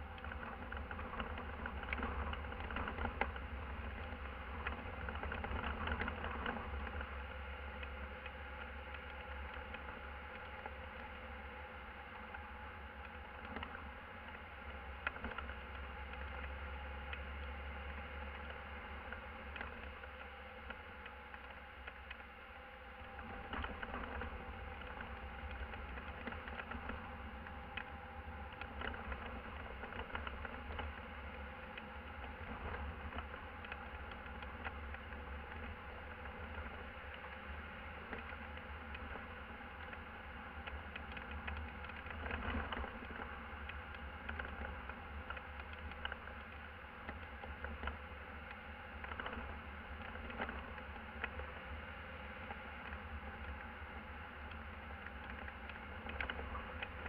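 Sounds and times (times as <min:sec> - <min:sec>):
engine and road noise: 0:00.0 - 0:57.0.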